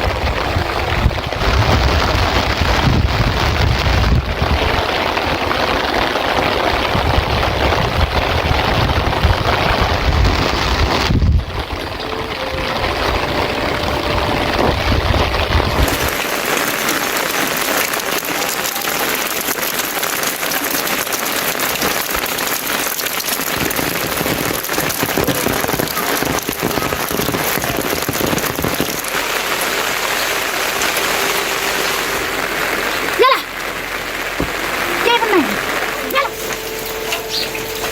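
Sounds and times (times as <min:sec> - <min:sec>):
low rumble: 0:00.0 - 0:17.4, 0:23.5 - 0:37.9
heavy rain falling: 0:00.0 - 0:37.9.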